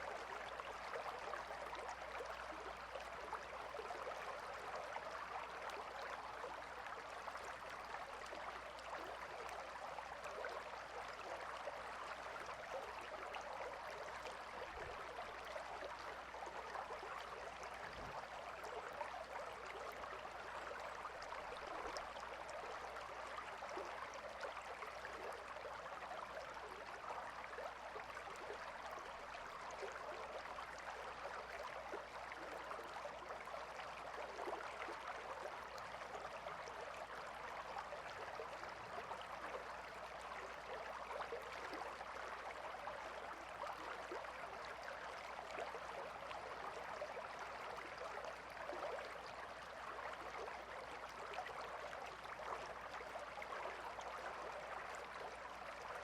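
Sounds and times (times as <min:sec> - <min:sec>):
river water babbling: 0:00.0 - 0:56.0.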